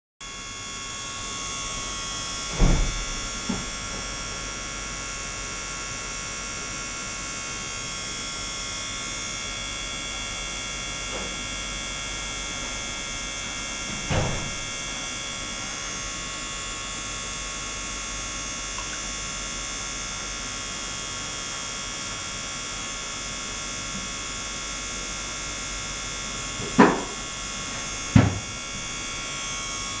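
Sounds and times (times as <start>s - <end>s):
electrical hum: 0.2s - 30.0s.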